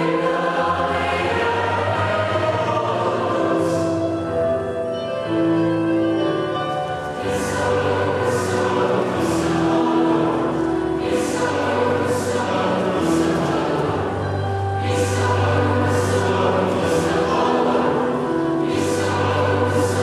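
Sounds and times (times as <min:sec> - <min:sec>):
mixed choir singing: 0:00.0 - 0:04.7, 0:06.4 - 0:20.0.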